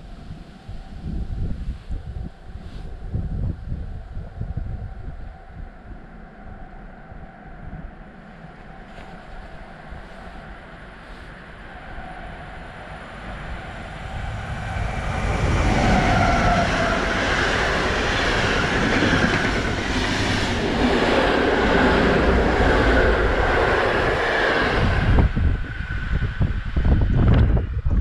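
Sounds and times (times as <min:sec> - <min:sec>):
express train passing at speed: 0:00.0 - 0:28.0.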